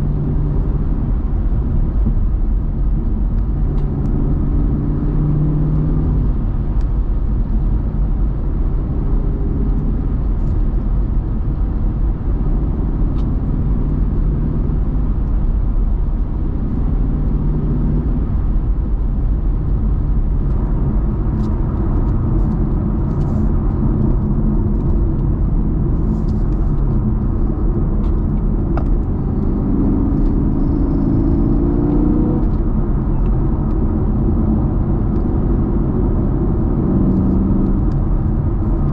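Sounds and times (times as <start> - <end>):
car engine running: 0.0 - 38.9
road noise: 0.0 - 38.9.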